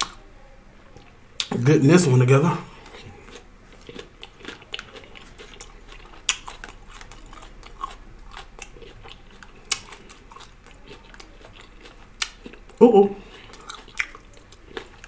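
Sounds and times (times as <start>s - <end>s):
person chewing food: 0.0s - 0.2s, 2.7s - 15.0s.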